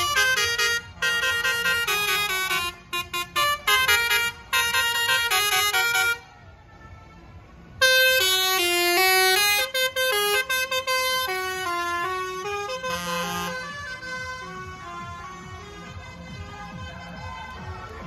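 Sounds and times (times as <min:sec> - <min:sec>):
musical air horn playing tune: 0:00.0 - 0:06.3, 0:07.8 - 0:17.2.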